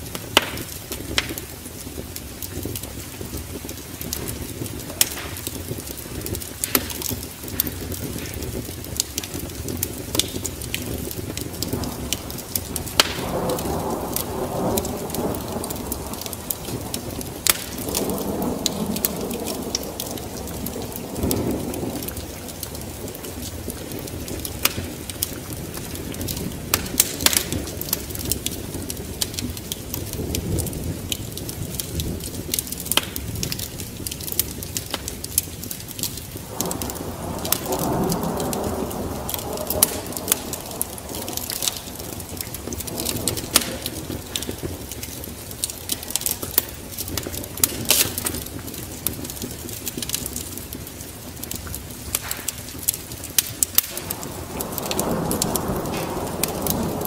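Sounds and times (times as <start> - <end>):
steady rain: 0.0 - 57.0
thunder rumbling: 0.0 - 57.0
wood fire crackling and popping: 0.0 - 57.0.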